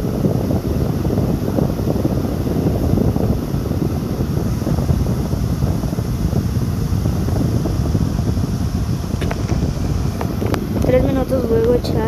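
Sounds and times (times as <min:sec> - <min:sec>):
low rumbling on microphone: 0:00.0 - 0:12.0.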